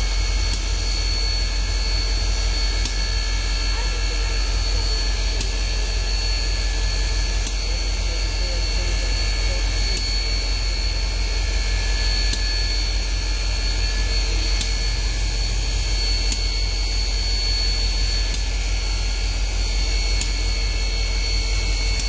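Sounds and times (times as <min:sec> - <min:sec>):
high whine: 0:00.0 - 0:22.0
steam locomotive rumble and hiss: 0:00.0 - 0:22.0.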